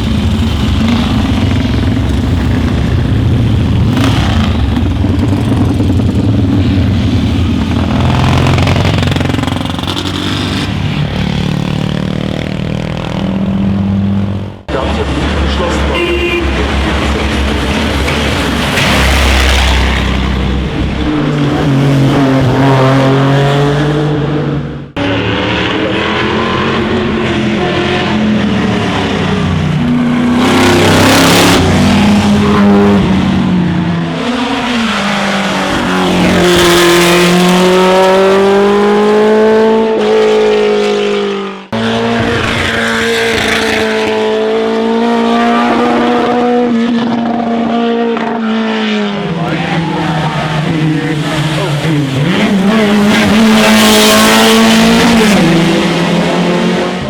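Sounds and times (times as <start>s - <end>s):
racing car engines revving: 0.0s - 57.0s.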